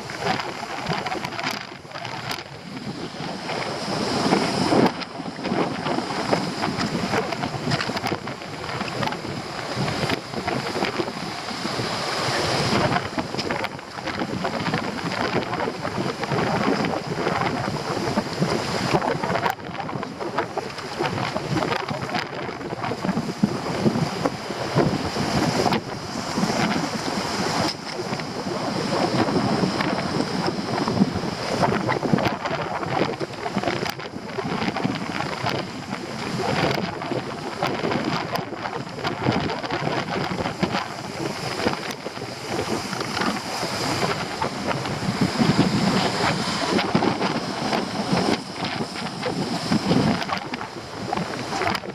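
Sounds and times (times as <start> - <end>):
stormy surf crashing: 0.0 - 51.9
wind buffeting microphone: 0.0 - 51.9.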